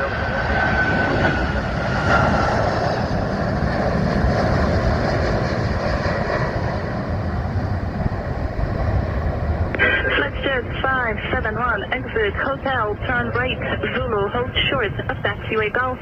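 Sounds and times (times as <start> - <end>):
faint high engine whine: 0.0 - 16.0
jet engines rumbling: 0.0 - 16.0.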